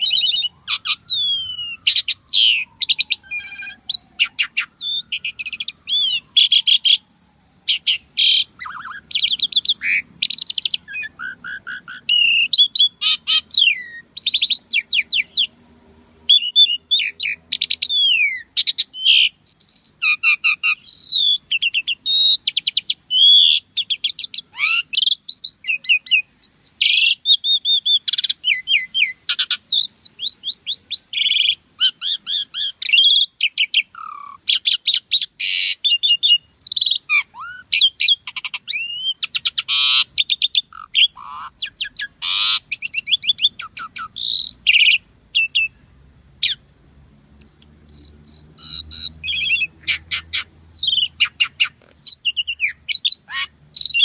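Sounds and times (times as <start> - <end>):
starling singing: 0.0 - 46.7, 47.4 - 54.0.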